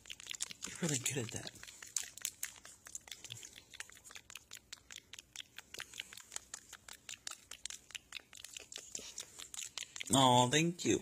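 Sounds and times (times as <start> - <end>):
snack crunching: 0.0 - 10.3.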